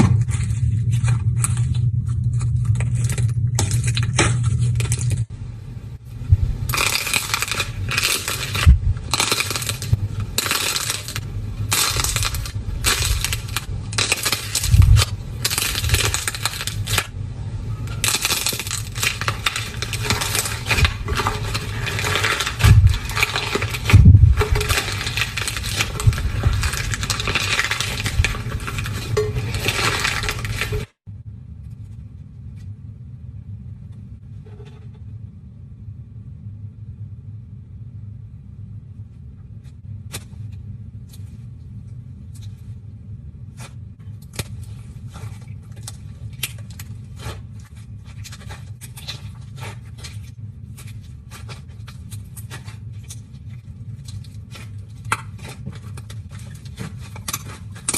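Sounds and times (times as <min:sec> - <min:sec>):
slime crackling and scraping: 0:00.0 - 0:05.3, 0:06.0 - 0:31.0, 0:39.6 - 0:57.9
low steady hum: 0:00.0 - 0:57.9.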